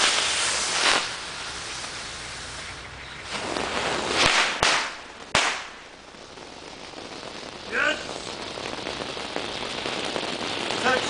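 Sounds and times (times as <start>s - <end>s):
firework spraying sparks: 0.0s - 11.0s
sharp firework pops: 0.0s - 11.0s
smoke bombs hissing: 0.0s - 11.0s.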